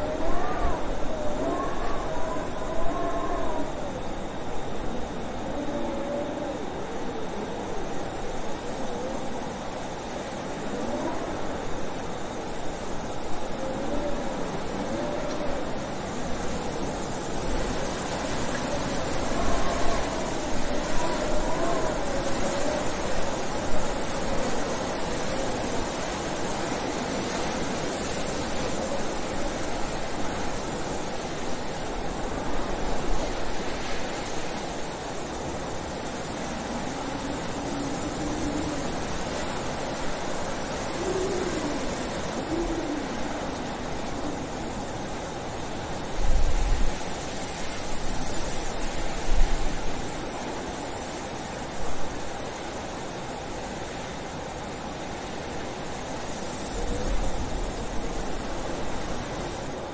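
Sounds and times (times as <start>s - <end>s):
blizzard wind rushing: 0.0s - 59.9s
low howl of wind: 0.0s - 59.9s
strong low wind gusts: 0.0s - 59.9s.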